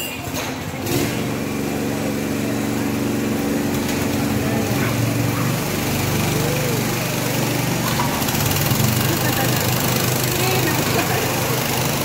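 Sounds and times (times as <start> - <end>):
small petrol engine starting and running: 0.0 - 12.0.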